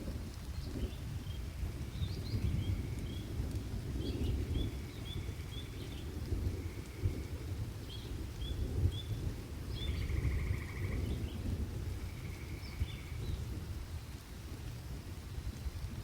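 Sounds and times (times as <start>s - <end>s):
rainstorm rumble: 0.0s - 16.0s.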